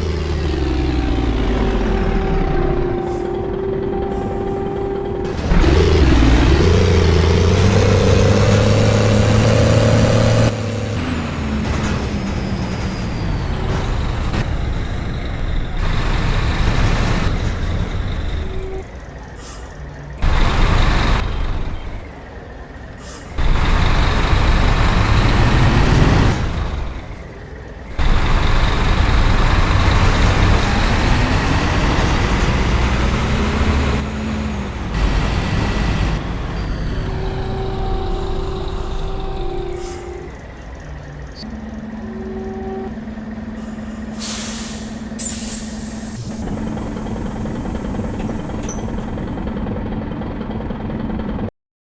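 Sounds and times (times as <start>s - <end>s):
diesel bus engine accelerating: 0.0s - 51.5s.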